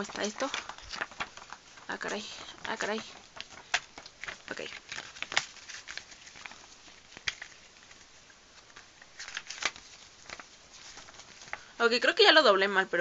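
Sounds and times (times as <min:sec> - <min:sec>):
paper rustling and crinkling: 0:00.0 - 0:11.7.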